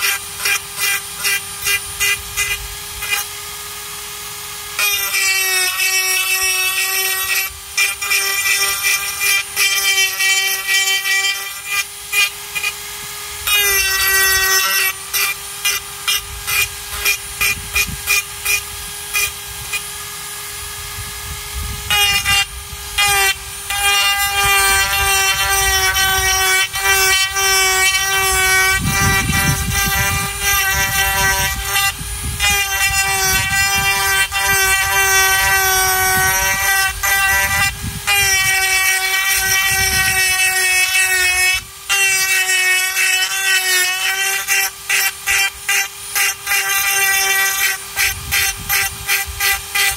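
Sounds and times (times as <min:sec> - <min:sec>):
rotary tool whining: 0:00.0 - 0:49.9.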